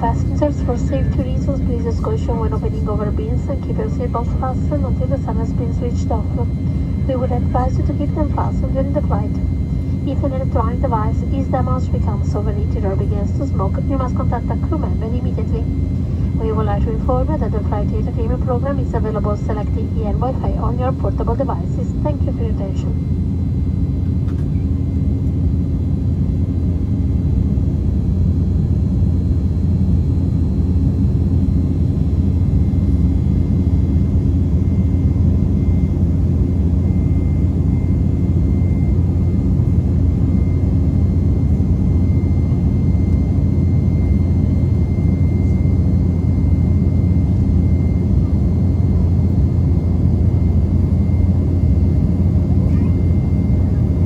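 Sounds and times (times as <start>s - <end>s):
jet cabin engine roar: 0.0s - 54.0s.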